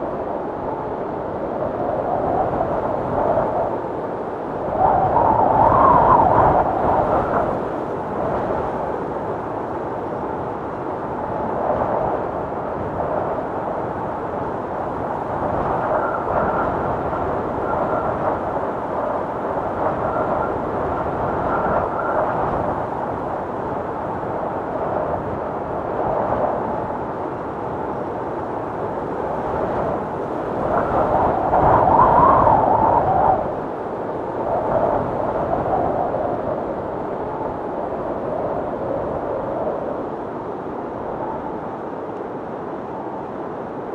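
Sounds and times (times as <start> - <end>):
strong gusting wind: 0.0 - 43.9.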